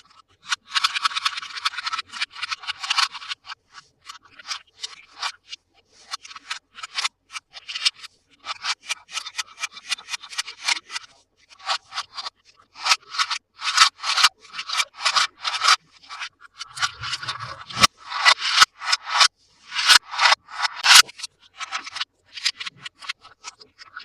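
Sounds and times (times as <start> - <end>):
hands rubbing toy packaging: 0.0 - 24.0.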